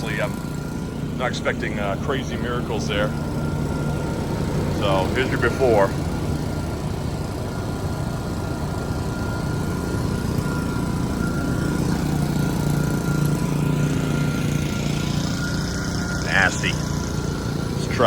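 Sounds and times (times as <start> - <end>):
engine idling: 0.0 - 18.0
faint steady whine: 0.0 - 18.0.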